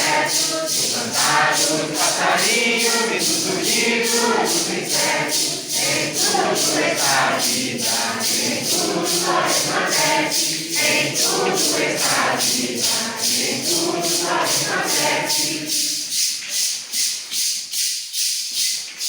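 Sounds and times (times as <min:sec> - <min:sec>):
group singing a hymn: 0:00.0 - 0:16.7
maracas shaking: 0:00.0 - 0:19.0.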